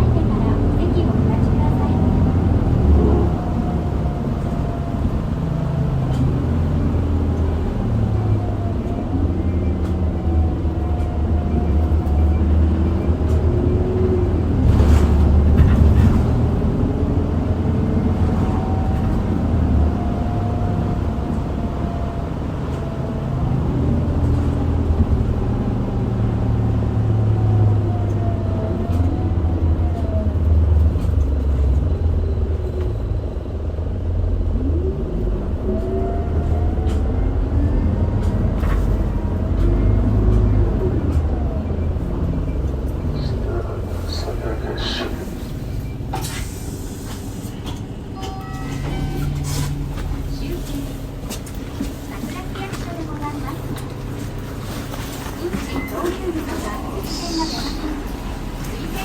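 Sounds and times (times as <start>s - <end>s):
bus engine rumble: 0.0s - 59.0s
road noise: 0.0s - 59.0s.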